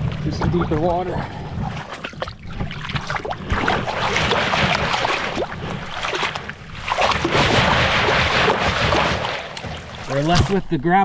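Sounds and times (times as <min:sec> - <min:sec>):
water sloshing through sifter: 0:00.0 - 0:10.6.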